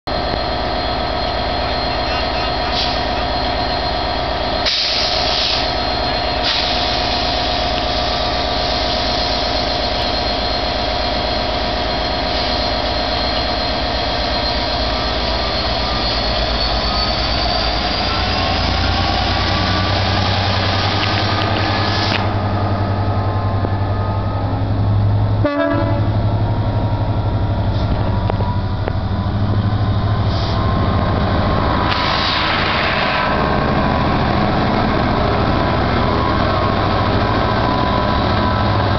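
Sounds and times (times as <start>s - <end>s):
diesel engine high whine: 0.0s - 38.9s
locomotive deep rumble: 0.0s - 38.9s.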